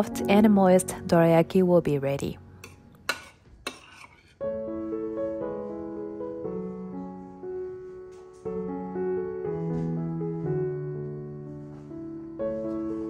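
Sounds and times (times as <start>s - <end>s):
soft piano chords: 0.0s - 3.1s, 4.4s - 13.0s.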